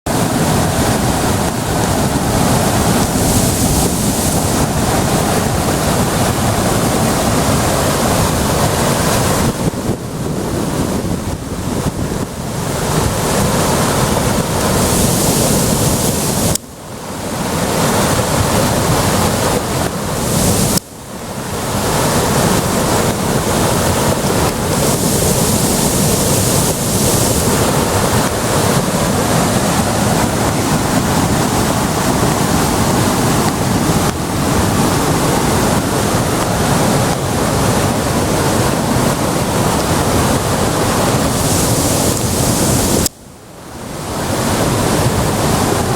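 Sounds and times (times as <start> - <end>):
river water rushing: 0.1 - 45.9
wind on microphone: 0.1 - 45.9.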